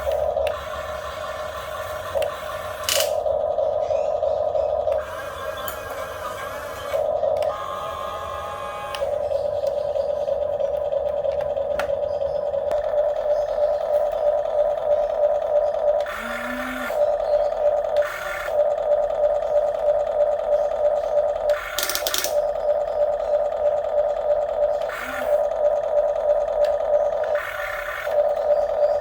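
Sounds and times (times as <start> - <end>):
electric motor whining: 0.0 - 29.0.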